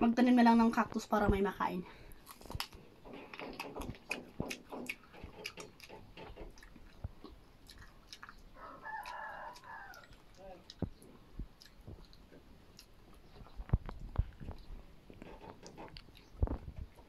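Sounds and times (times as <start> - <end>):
person chewing with wet crunches: 2.0 - 17.0.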